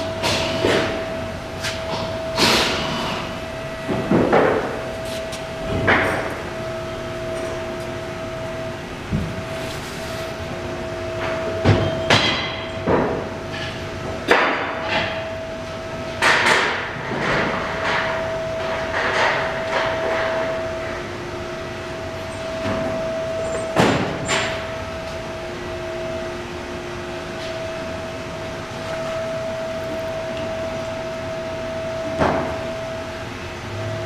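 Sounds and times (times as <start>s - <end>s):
steady high hum: 0.0s - 34.0s.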